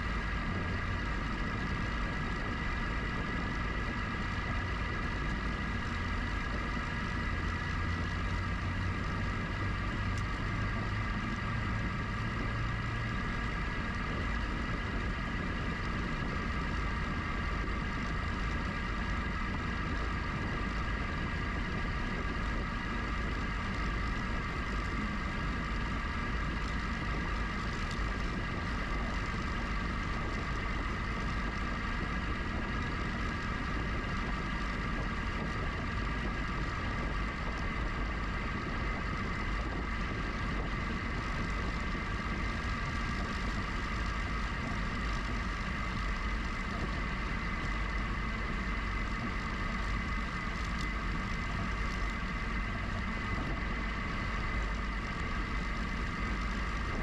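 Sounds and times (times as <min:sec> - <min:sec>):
electric motor high whine: 0:00.0 - 0:57.0.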